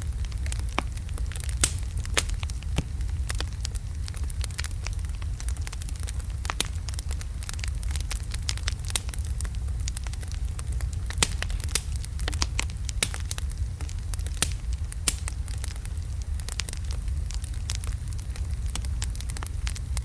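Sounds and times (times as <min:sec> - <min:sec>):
low rumble of flames: 0:00.0 - 0:20.0
wood fire crackling: 0:00.0 - 0:20.0
sharp pops and snaps: 0:00.1 - 0:20.0.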